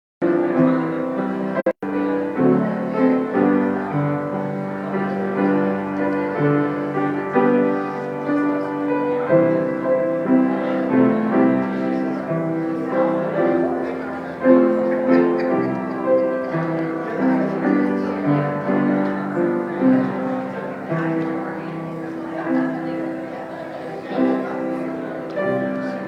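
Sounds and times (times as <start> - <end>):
slow piano music: 0.2 - 26.0.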